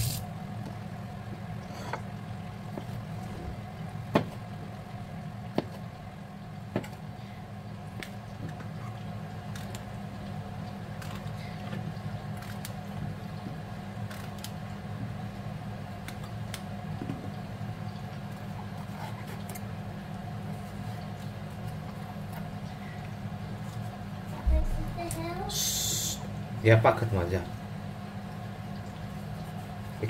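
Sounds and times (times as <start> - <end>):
steady low hum: 0.0 - 14.0, 19.8 - 30.0.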